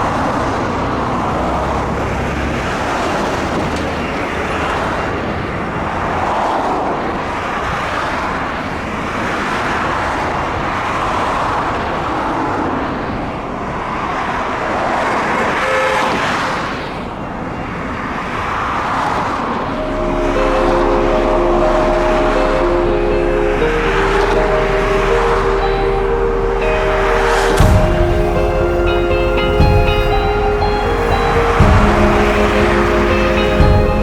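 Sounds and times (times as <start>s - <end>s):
jet engine noise: 0.0s - 34.0s.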